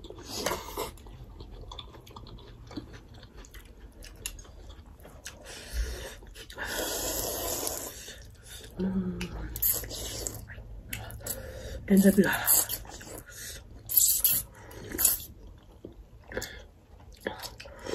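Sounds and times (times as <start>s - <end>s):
chewing and slurping noodles: 0.0s - 8.8s, 9.4s - 17.9s.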